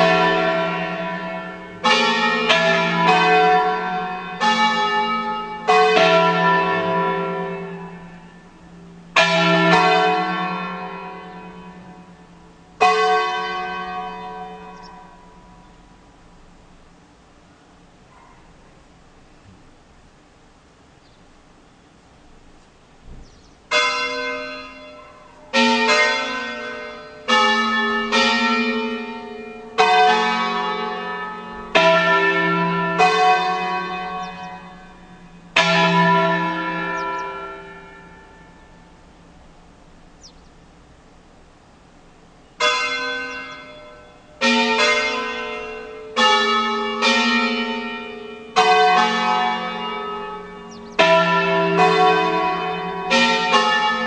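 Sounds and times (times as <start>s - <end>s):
church bells ringing: 0.0s - 16.5s, 23.7s - 40.9s, 42.6s - 54.0s.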